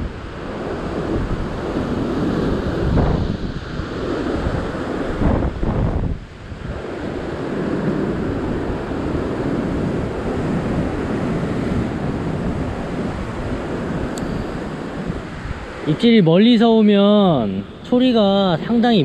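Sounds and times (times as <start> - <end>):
heavy surf breaking over rocks: 0.0 - 19.0
wind rumbling on microphone: 0.0 - 19.0.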